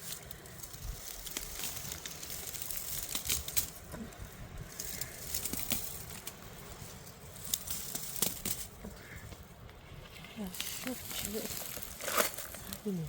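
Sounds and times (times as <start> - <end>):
crackles and sharp clicks: 0.0 - 13.0
rustling: 0.0 - 13.0.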